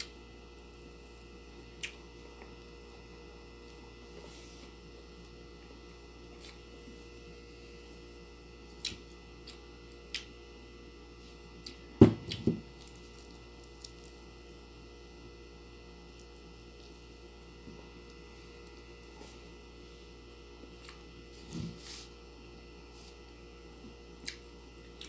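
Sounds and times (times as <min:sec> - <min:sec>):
eating rice with fingers: 0:00.0 - 0:14.8, 0:16.0 - 0:25.0
steady low hum: 0:00.0 - 0:25.0.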